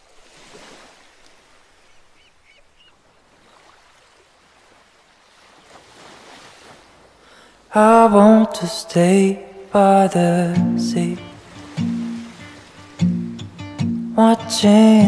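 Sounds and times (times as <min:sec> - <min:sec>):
small waves washing on beach: 0:00.0 - 0:13.2.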